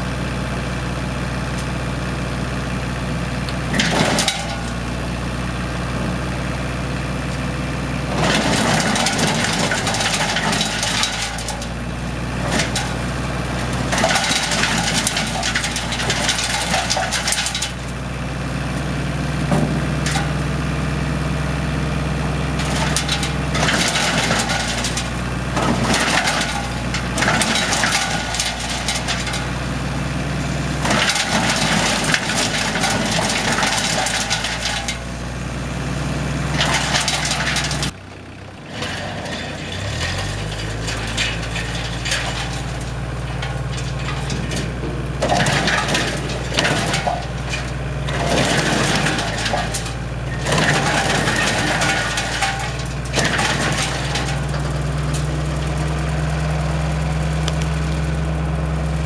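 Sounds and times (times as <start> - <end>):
diesel engine running: 0.0 - 59.0
wood chipper crunching branches: 0.0 - 59.0.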